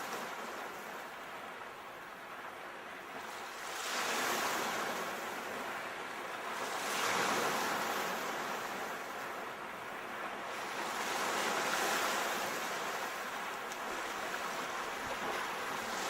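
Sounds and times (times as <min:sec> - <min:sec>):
sea waves breaking: 0:00.0 - 0:16.0.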